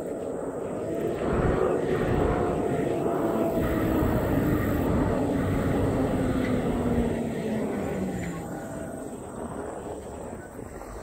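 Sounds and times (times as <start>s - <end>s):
engine drone: 0.0s - 11.0s
wind buffeting microphone: 0.0s - 11.0s.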